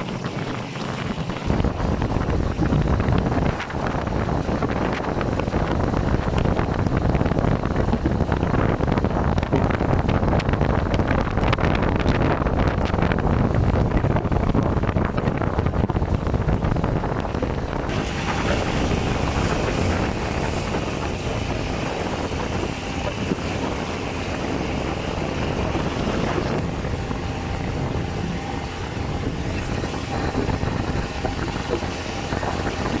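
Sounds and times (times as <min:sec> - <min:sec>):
boat engine running: 0:00.0 - 0:33.0
wind buffeting microphone: 0:00.0 - 0:33.0.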